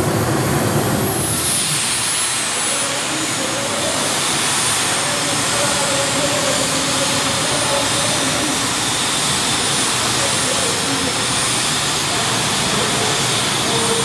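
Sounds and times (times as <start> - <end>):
high-pitched whine: 0.0 - 14.0
pulling tractor engines roaring: 0.0 - 14.0.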